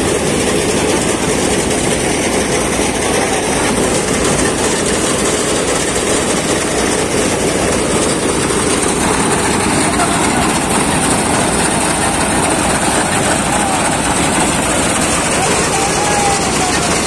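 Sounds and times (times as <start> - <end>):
threshing machine hum and rattle: 0.0 - 17.0.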